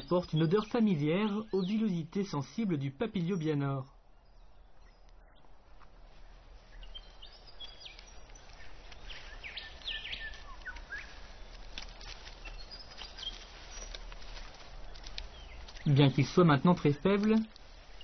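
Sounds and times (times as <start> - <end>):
birds chirping: 0.0 - 18.0
faint outdoor ambience: 0.0 - 18.0.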